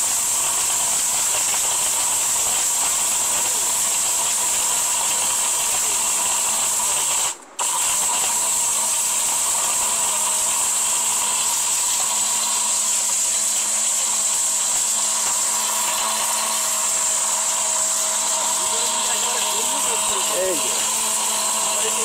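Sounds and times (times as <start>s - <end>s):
blender grinding: 0.0s - 22.0s.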